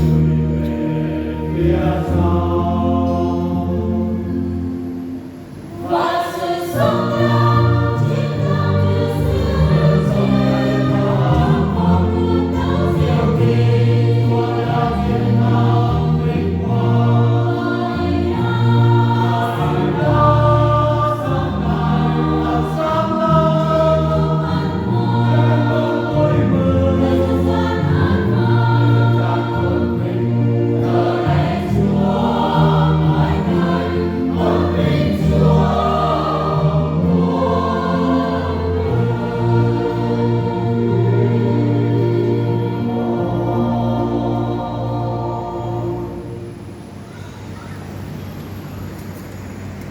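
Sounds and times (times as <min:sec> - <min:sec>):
low instrumental accompaniment: 0:00.0 - 0:47.0
choir singing a hymn: 0:00.0 - 0:47.1.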